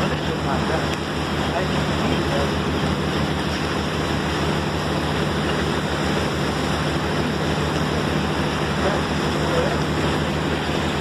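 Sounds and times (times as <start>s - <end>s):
boat engine hum: 0.0s - 11.0s
water rushing from wake: 0.0s - 11.0s.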